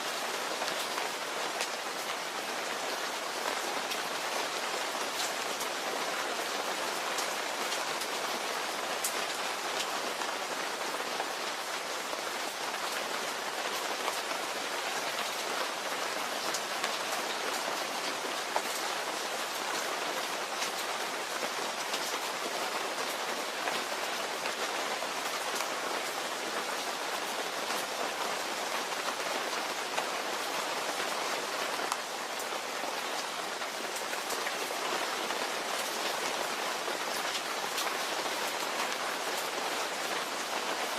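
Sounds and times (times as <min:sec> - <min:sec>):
steady rain hissing: 0:00.0 - 0:40.9
raindrops ticking on surface: 0:00.1 - 0:40.9.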